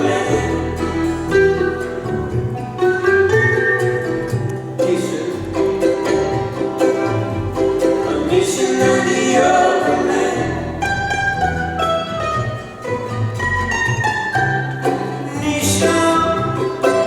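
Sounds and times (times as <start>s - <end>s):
acoustic band playing: 0.0s - 17.0s.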